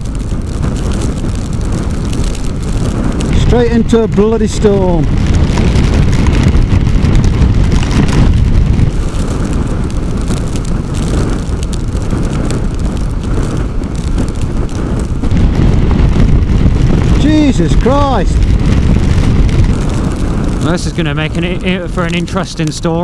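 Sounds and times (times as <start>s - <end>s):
wind buffeting helmet microphone: 0.0s - 23.0s.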